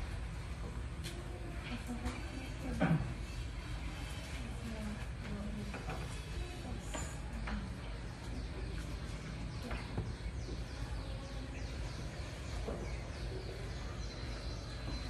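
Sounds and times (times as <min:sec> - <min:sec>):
low room noise rumble: 0:00.0 - 0:15.0.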